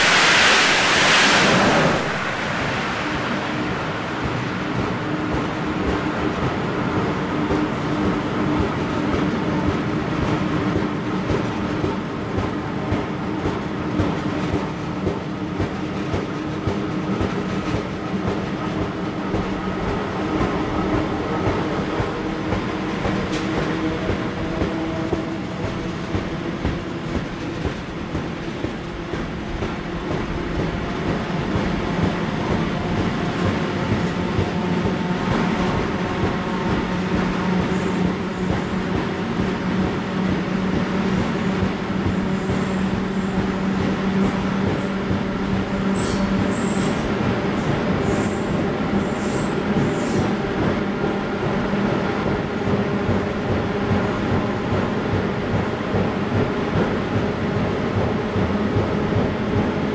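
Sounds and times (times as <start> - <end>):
train running noise: 0.0 - 59.9
train wheels clattering over rails: 0.0 - 59.9.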